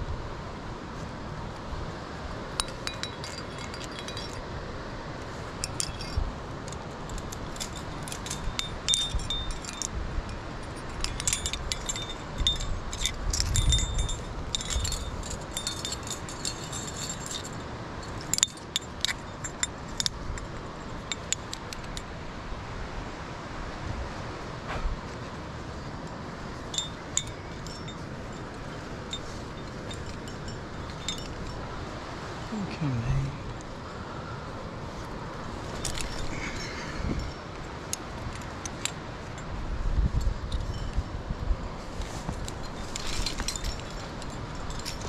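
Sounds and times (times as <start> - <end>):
metal climbing gear clinking: 2.5 - 4.8, 5.5 - 22.3, 25.1 - 32.8, 34.9 - 41.2, 41.8 - 45.0.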